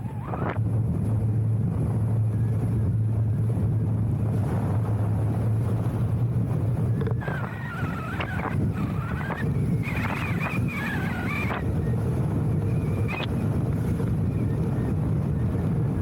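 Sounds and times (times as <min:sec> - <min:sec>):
engine hum: 0:00.0 - 0:16.0
wind on microphone: 0:00.0 - 0:16.0.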